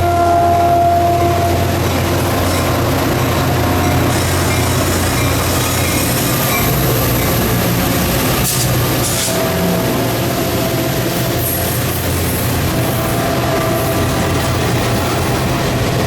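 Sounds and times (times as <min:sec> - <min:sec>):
passenger train rumbling past: 0:00.0 - 0:16.0.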